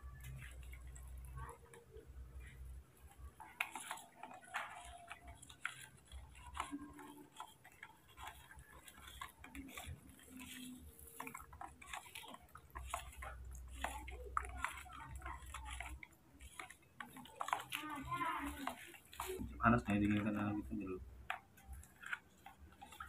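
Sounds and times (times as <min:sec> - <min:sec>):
plastic cups clicking and tapping: 0:00.0 - 0:23.0.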